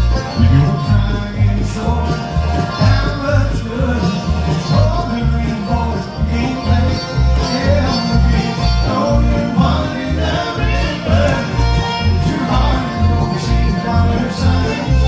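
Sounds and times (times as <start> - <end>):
banjo picking: 0.0 - 15.0
guitar picking: 0.0 - 15.0
pulsing bass notes: 0.0 - 15.0.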